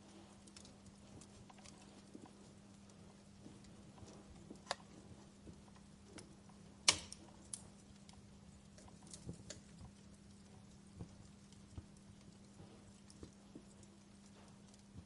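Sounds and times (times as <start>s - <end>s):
faint low hum: 0.0s - 15.0s
wood fire crackling: 0.0s - 15.0s.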